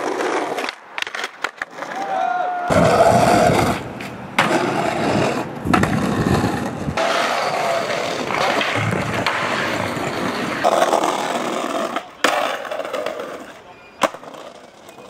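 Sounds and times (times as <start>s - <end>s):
skateboard clacks: 0.0s - 2.1s, 2.7s - 15.0s
skateboard wheels rolling on pavement: 0.0s - 15.0s.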